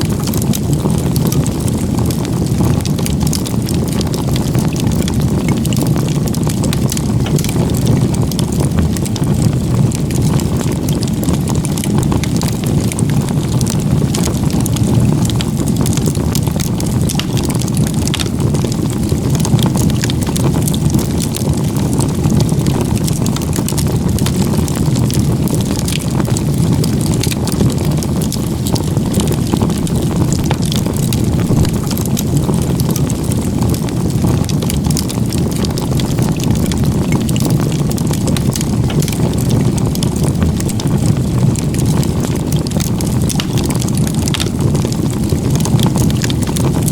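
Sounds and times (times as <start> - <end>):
fire crackling and popping: 0.0 - 46.9
low rush of flames: 0.0 - 46.9.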